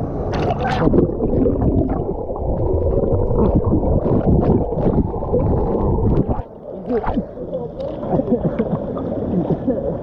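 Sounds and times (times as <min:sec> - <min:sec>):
muffled underwater water rumble: 0:00.0 - 0:10.0.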